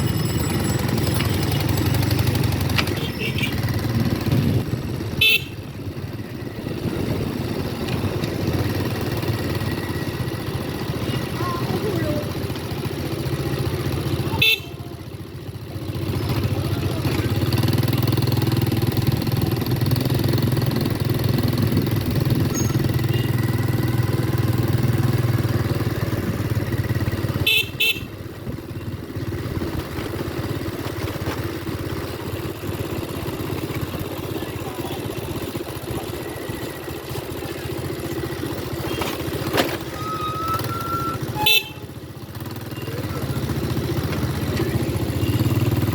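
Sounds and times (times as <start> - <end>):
motorcycle engine humming: 0.0 - 45.9.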